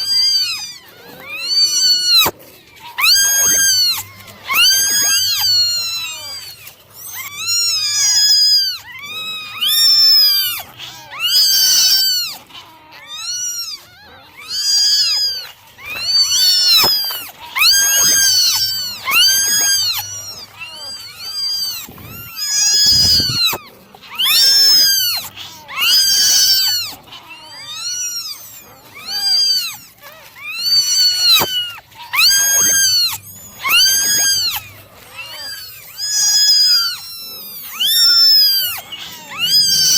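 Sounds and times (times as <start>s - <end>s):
kittens meowing: 0.0s - 39.9s.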